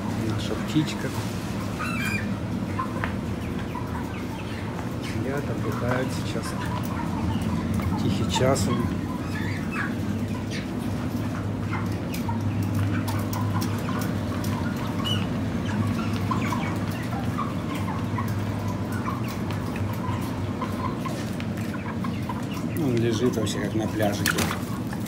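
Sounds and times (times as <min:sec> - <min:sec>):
chickens calling softly: 0:00.0 - 0:25.0.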